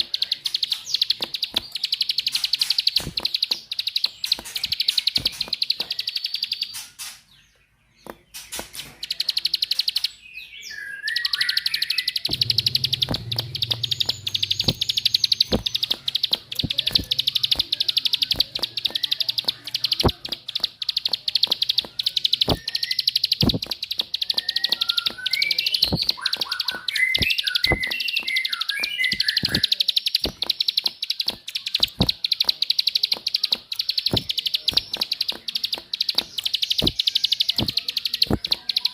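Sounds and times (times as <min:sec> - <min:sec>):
bird clicking trill: 0:00.0 - 0:07.2, 0:08.0 - 0:10.2, 0:11.1 - 0:38.9
low bird chirps: 0:00.0 - 0:38.9.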